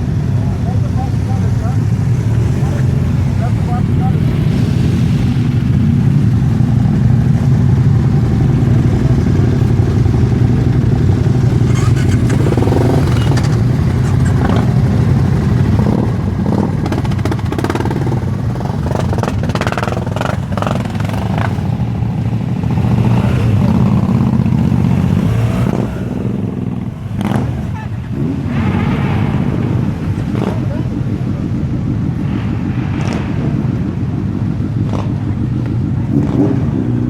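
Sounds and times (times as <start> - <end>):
motorcycle engines droning: 0.0 - 37.0.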